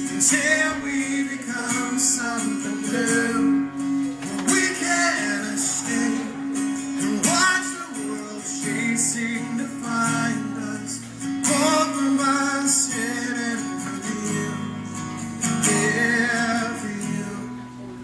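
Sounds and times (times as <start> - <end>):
man singing slow song: 0.0 - 18.0.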